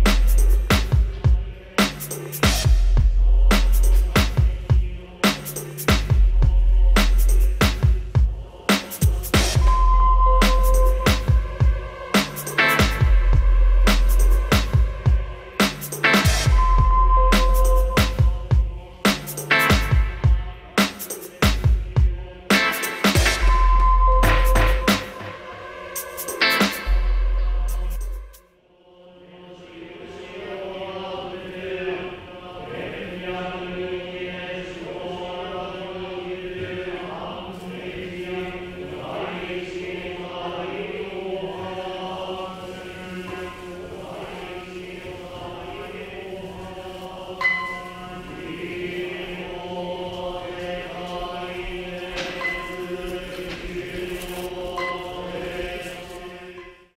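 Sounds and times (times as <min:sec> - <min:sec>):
chanting voices: 0:00.0 - 0:57.0.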